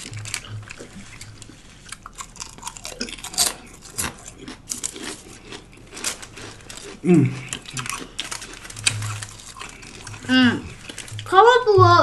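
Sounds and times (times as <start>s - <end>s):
crunchy food being chewed: 0.0s - 11.3s.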